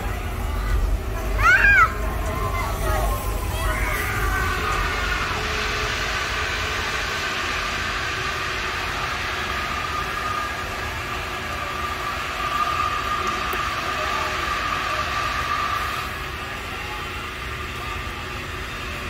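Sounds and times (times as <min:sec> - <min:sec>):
ride lift machinery humming: 0:00.0 - 0:19.0.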